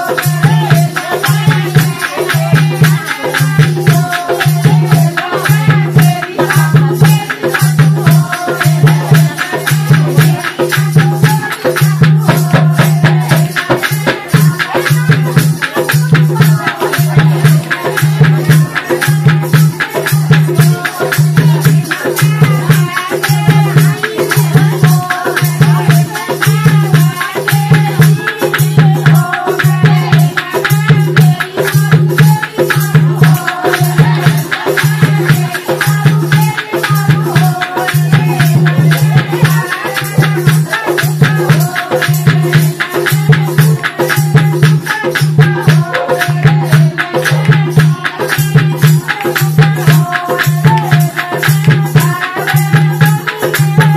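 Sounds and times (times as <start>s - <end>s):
fast jingling rattle percussion: 0.0s - 53.9s
person singing: 0.0s - 53.9s.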